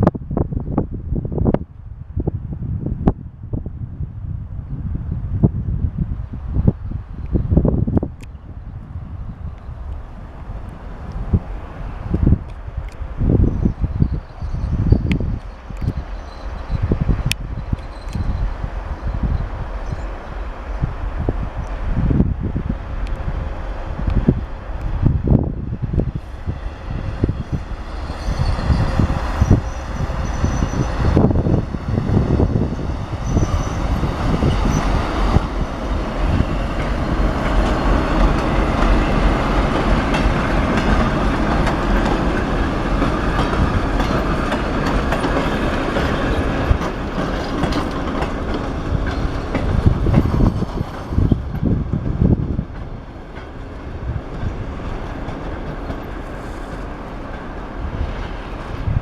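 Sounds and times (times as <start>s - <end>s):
diesel locomotive rumble: 2.7s - 59.0s
wheel and rail noise: 6.2s - 59.0s.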